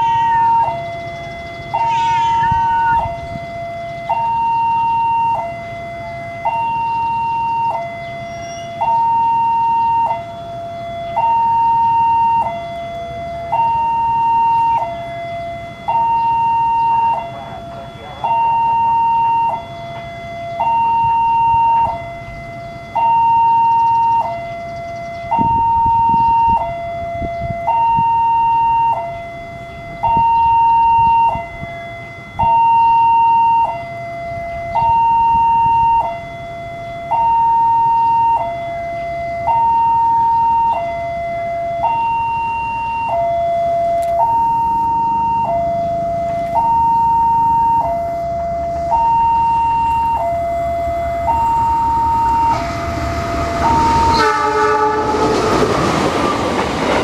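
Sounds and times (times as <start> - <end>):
level crossing two-tone siren: 0.0 - 57.0.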